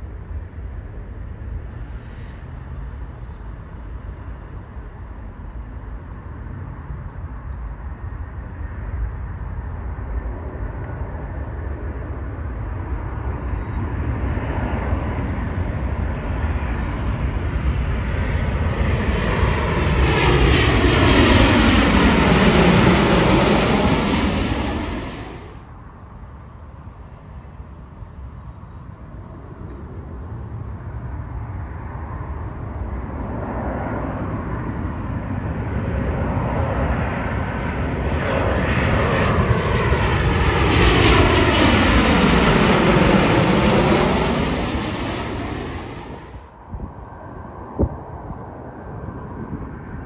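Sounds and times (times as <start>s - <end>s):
jet engines roaring overhead: 0.0s - 50.0s.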